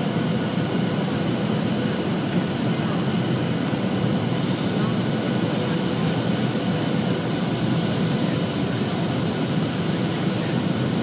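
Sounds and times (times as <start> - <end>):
jet engines and airflow rushing: 0.0 - 11.0.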